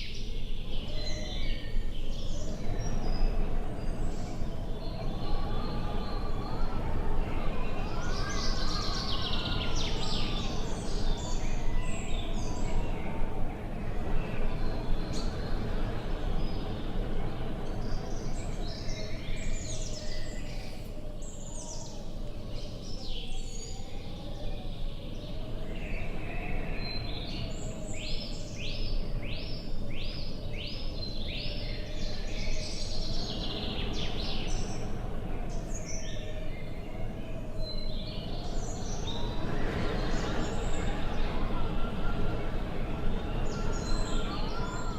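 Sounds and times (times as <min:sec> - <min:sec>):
birds singing and chirping: 0:00.0 - 0:44.9
low wind rumble: 0:00.0 - 0:44.9.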